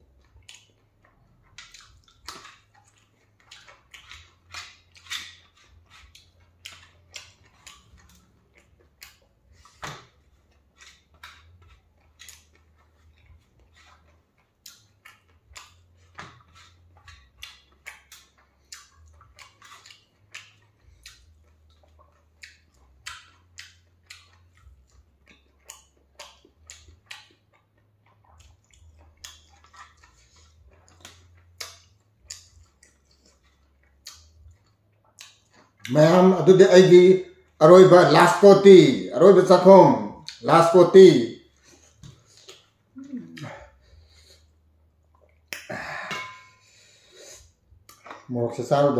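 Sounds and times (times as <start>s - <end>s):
person chewing and crunching: 0.0s - 48.9s.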